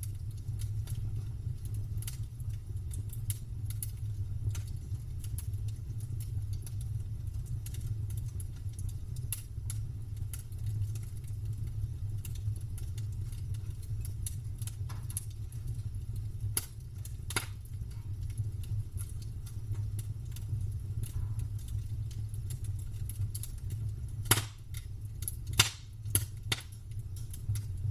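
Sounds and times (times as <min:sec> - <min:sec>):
campfire crackling: 0:00.0 - 0:27.9.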